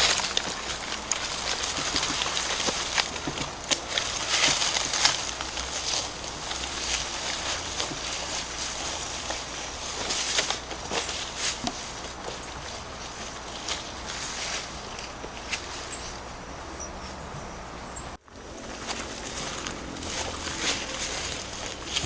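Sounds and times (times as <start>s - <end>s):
footsteps through dry grass: 0.0s - 22.0s.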